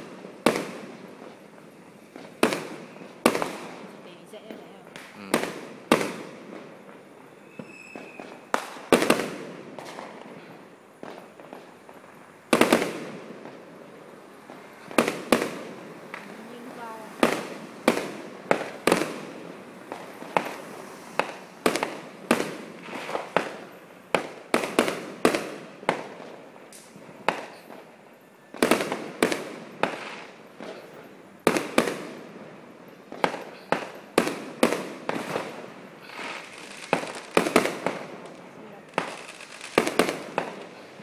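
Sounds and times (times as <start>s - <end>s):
fireworks bangs: 0.0s - 41.0s.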